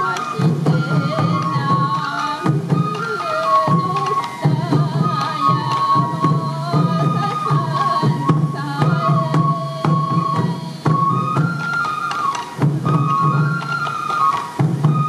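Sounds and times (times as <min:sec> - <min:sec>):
bamboo flute melody: 0:00.0 - 0:15.0
taiko drum beats: 0:00.0 - 0:15.0.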